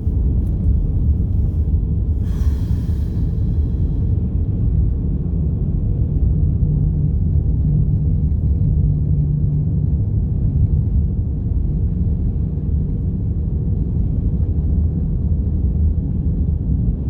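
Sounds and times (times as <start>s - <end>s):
low hum: 0.0s - 14.4s.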